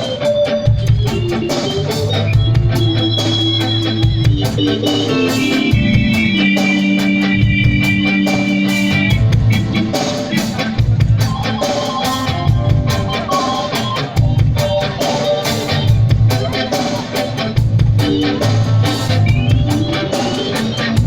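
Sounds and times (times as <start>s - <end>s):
live band jamming: 0.0s - 21.0s.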